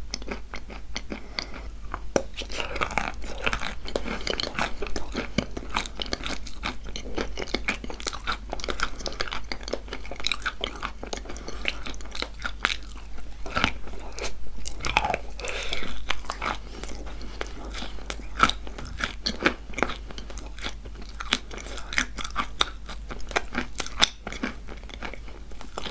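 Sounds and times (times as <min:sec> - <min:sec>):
chewing crunchy chalk: 0:00.1 - 0:25.9.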